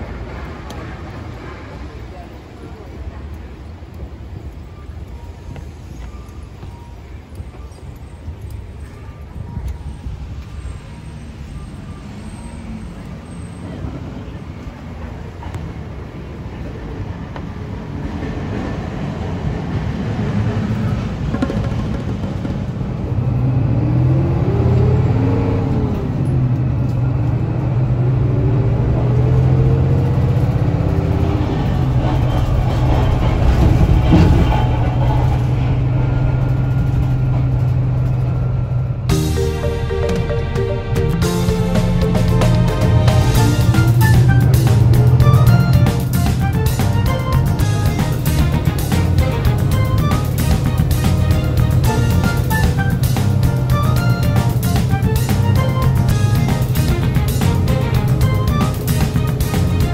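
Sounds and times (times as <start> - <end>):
streetcar motor whine: 0.0 - 59.9
traffic rumble: 0.0 - 59.9.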